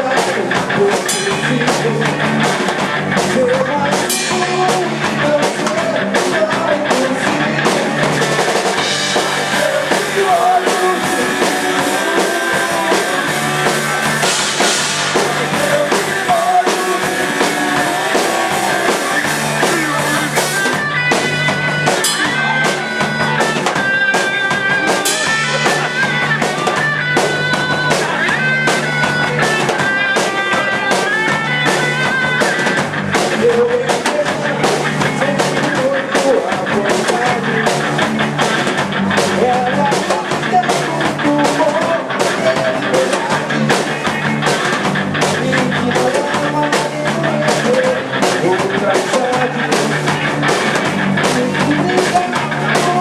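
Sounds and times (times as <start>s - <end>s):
held melodic guitar or vocal lines: 0.0s - 53.0s
rock band playing live: 0.0s - 53.0s.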